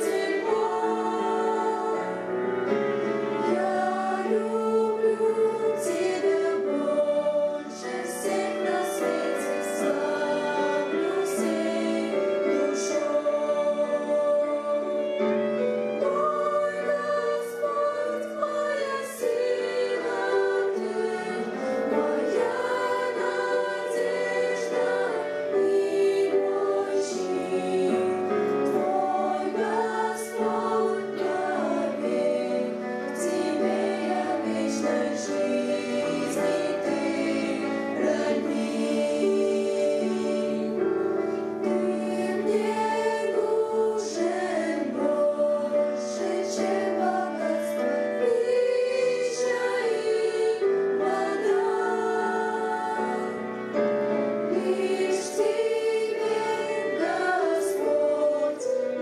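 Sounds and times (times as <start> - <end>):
women's choir singing a hymn: 0.0 - 59.0.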